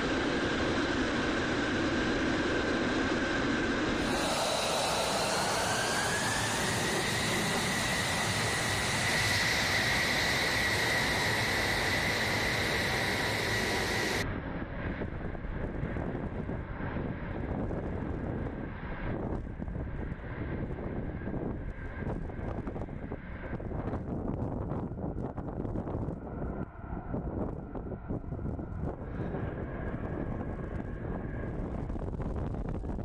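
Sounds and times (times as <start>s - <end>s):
jet engine roar with whine: 0.0s - 33.0s.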